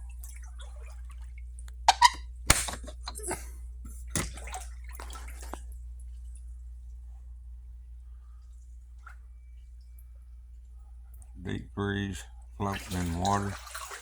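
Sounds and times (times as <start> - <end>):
water splashing and sloshing: 0.0 - 11.4, 12.2 - 14.0
steady low hum: 0.0 - 13.8.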